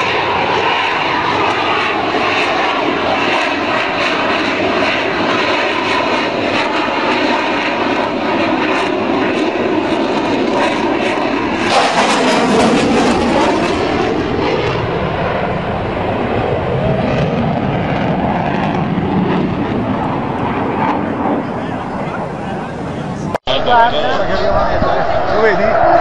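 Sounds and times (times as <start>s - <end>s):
fighter jet roaring: 0.0s - 26.0s.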